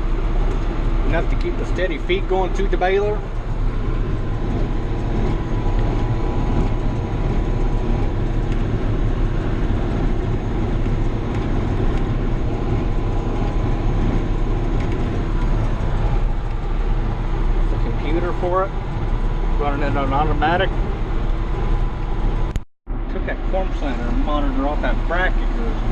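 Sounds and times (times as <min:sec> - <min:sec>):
faint steady whine: 0:00.0 - 0:25.9
tractor engine and baler drone: 0:00.0 - 0:25.9.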